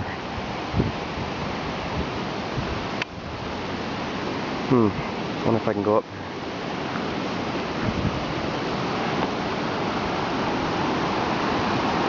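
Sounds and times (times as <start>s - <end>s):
whitewater rapids rushing: 0.0s - 12.0s.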